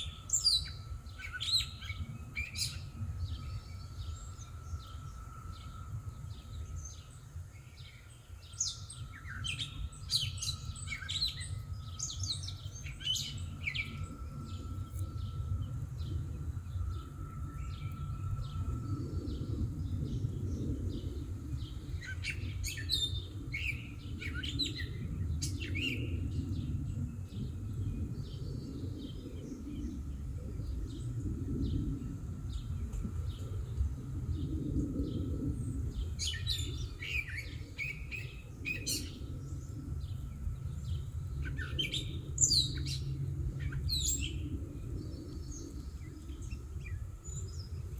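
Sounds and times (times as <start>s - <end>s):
songbirds chirping: 0.0s - 47.9s
steady low rumble: 0.0s - 47.9s.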